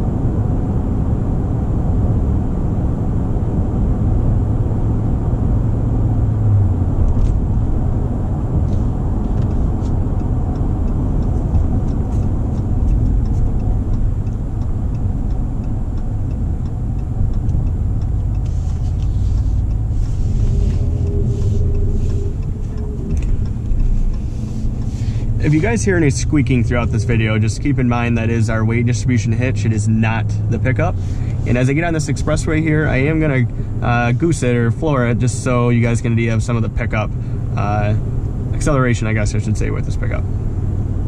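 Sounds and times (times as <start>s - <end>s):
truck engine and tyres rumbling: 0.0s - 41.0s.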